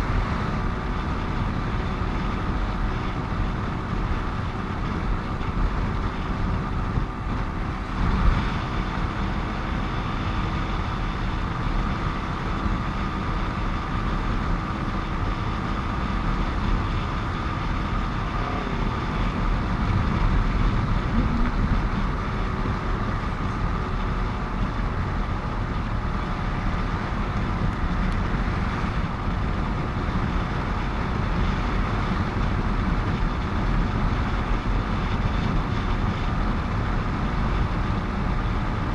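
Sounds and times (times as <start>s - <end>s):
motorcycle engine hum: 0.0s - 38.9s
passing trucks and cars: 0.0s - 38.9s
road rumble: 0.0s - 38.9s
wind: 0.0s - 38.9s.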